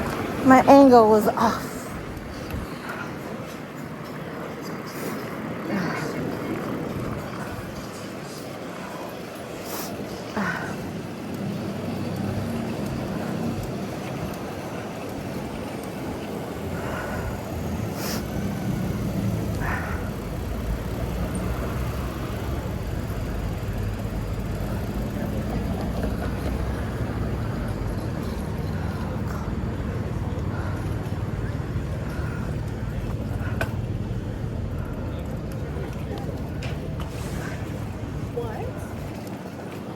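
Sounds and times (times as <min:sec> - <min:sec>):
low rumble of passing cars: 0:00.0 - 0:39.9.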